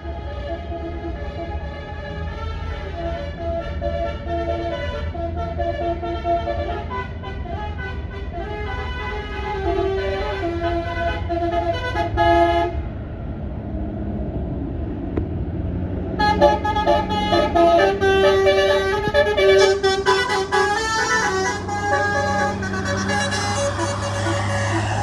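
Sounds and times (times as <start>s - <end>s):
bus engine rumble: 0.0s - 25.0s
musical bus horn tune: 0.1s - 12.8s, 16.2s - 25.0s.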